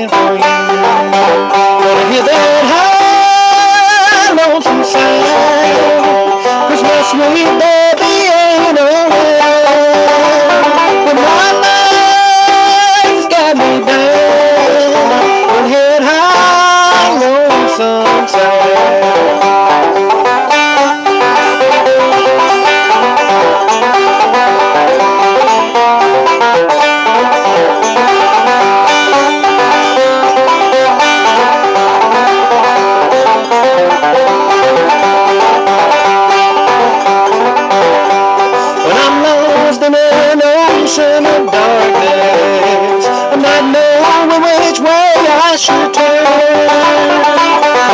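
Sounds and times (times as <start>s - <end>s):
banjo rolls: 0.0s - 47.9s
bluegrass band playing: 0.0s - 47.9s.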